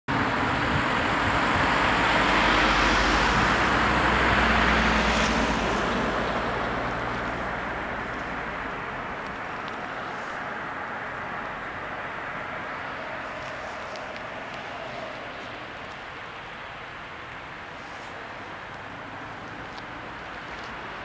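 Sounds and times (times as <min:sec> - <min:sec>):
cars driving past: 0:00.1 - 0:21.0.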